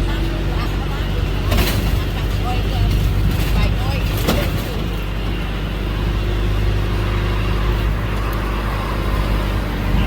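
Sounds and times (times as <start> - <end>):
bus engine humming: 0.0 - 10.0.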